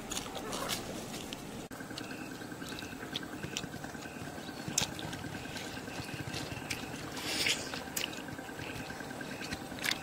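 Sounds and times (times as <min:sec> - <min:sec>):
person gnawing and chewing: 0:00.0 - 0:10.0
faint high pulsing: 0:01.6 - 0:10.0.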